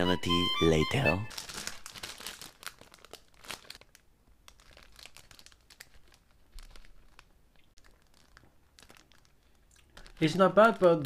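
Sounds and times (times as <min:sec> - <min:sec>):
plastic bag crinkling: 0:00.9 - 0:11.0.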